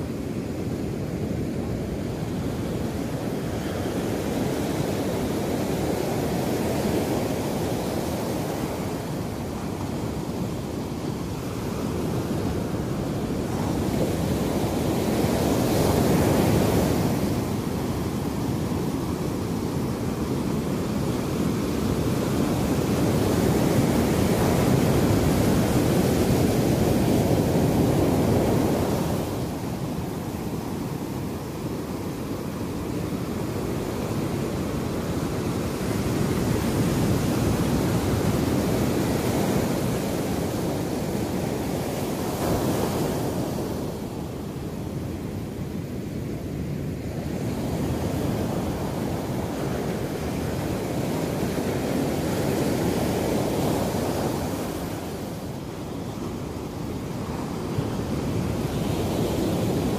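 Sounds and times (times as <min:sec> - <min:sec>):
waves breaking on sandy beach: 0:00.0 - 0:59.9.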